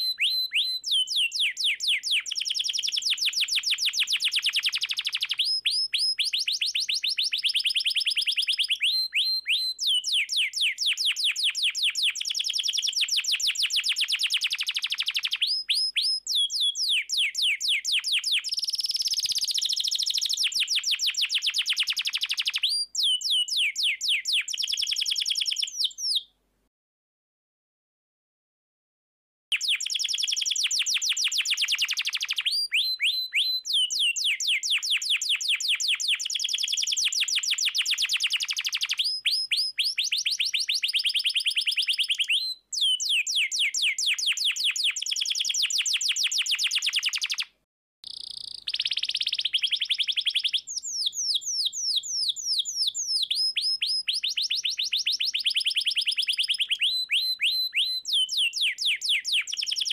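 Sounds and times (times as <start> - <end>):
canary singing trills: 0.0 - 26.3, 29.5 - 59.9.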